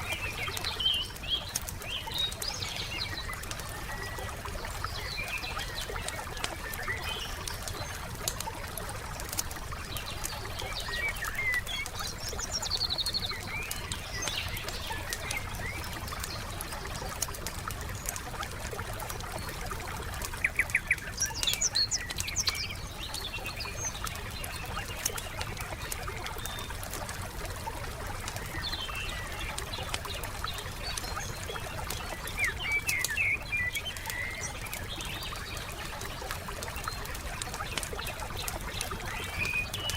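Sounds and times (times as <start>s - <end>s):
songbirds chirping: 0.0s - 39.9s
wood fire crackling and popping: 0.0s - 39.9s.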